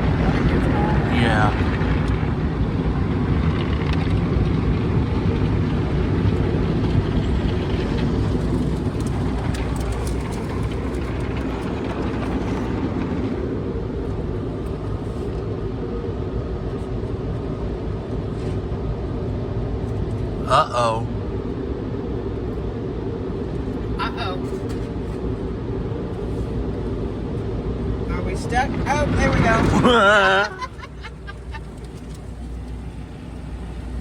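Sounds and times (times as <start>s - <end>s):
car wash machinery rumble: 0.0s - 34.0s.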